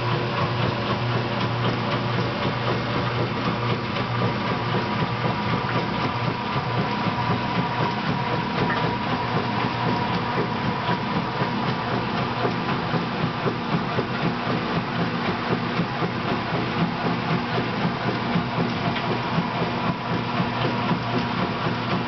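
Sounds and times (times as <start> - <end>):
washing machine hum and whine: 0.0 - 22.0.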